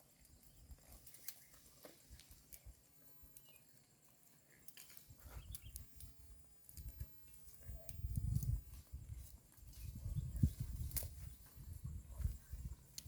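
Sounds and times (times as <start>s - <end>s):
cows tearing and chewing grass: 0.0s - 13.0s.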